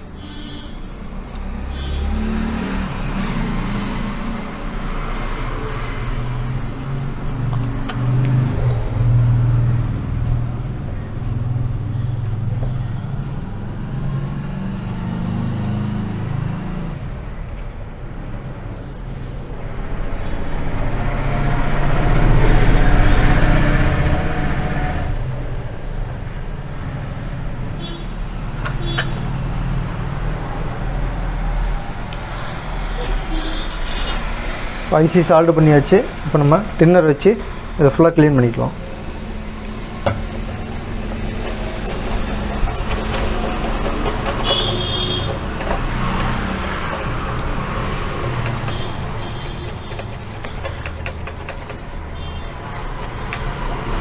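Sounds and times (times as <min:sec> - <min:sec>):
vehicles passing on road: 0:00.8 - 0:54.0.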